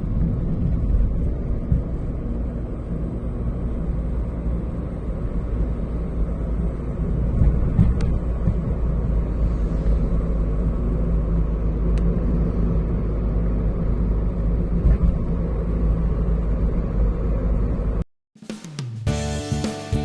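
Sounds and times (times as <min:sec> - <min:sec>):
road noise: 0:00.0 - 0:18.1.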